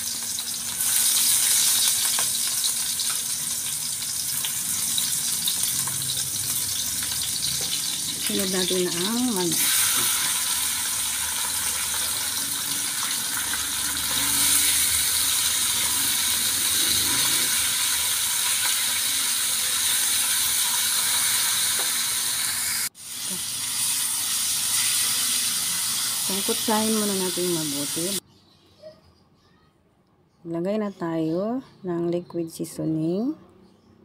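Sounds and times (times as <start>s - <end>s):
chicken sizzling in a wok: 0.0s - 28.2s.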